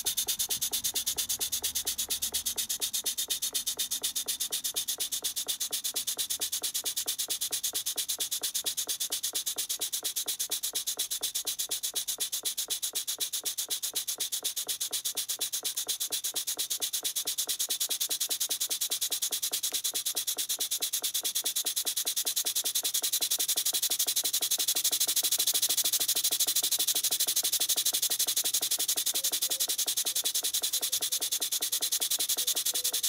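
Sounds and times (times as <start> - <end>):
steam engine hissing puffs: 0.0 - 33.0.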